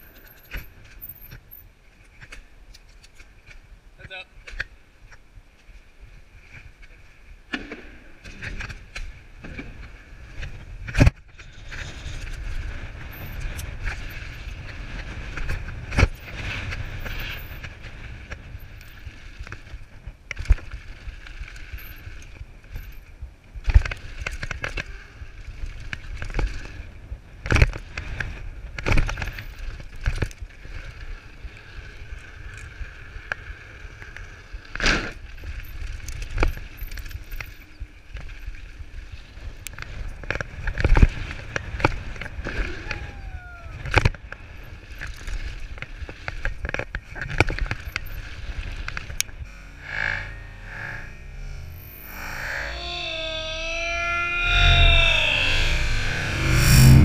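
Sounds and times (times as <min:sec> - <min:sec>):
bike tyres and frame rumbling: 0:00.0 - 0:57.0.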